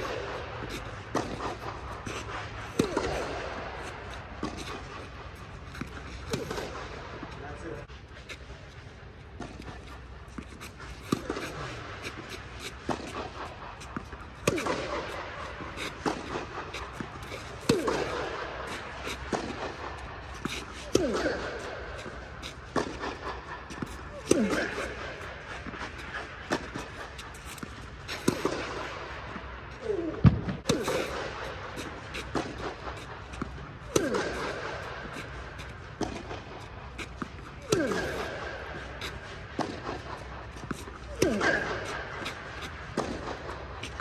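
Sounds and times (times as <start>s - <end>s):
tennis balls struck by rackets: 0.0s - 44.0s.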